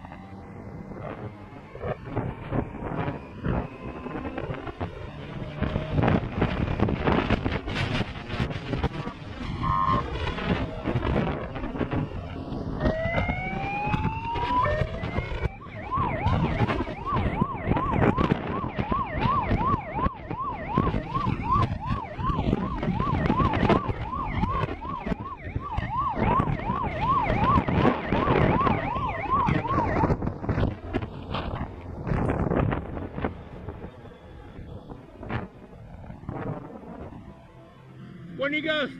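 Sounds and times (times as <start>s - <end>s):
emergency siren wailing and yelping: 0.0s - 38.9s
road and wind noise: 0.0s - 38.9s.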